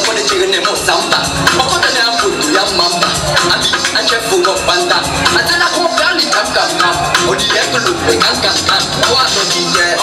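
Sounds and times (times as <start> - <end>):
dance music with vocals: 0.0 - 10.0.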